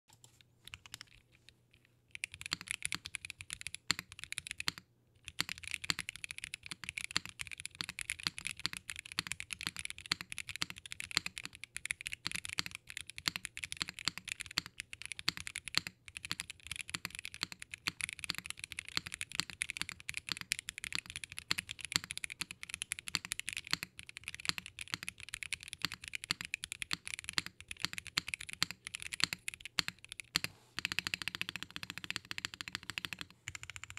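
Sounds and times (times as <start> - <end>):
fast typing on mechanical keyboard: 0.2 - 1.4, 2.1 - 33.9.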